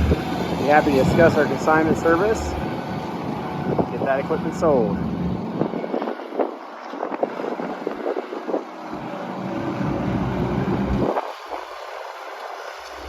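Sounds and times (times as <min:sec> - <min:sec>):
diesel engine running: 0:00.0 - 0:11.1
wind buffeting microphone: 0:00.0 - 0:13.0.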